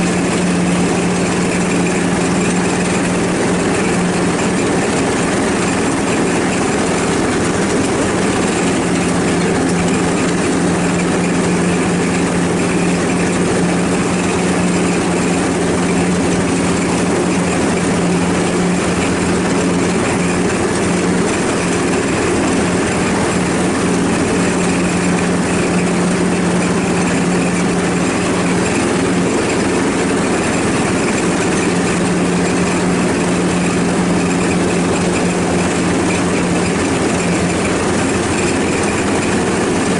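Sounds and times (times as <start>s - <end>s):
ride-on lawn mower engine: 0.0s - 39.9s.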